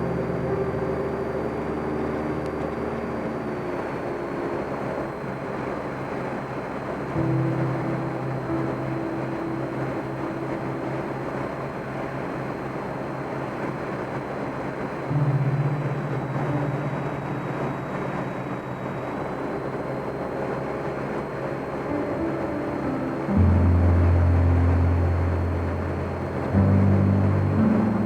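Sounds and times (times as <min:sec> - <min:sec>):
airplane engine droning in cabin: 0:00.0 - 0:28.0.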